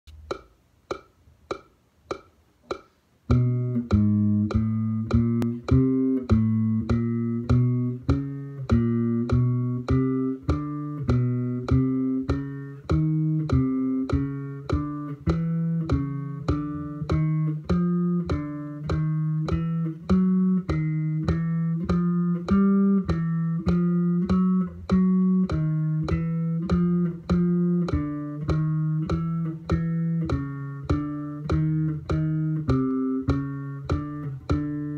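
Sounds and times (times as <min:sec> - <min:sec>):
metronome clicks: 0:00.1 - 0:34.9
plucked electric bass notes: 0:00.1 - 0:34.9.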